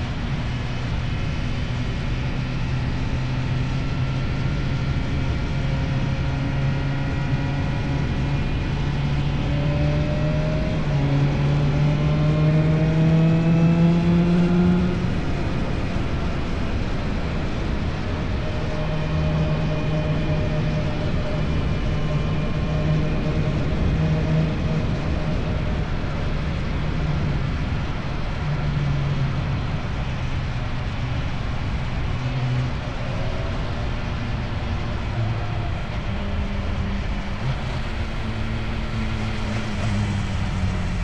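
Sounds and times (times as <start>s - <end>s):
rush of noise: 0.0s - 41.0s.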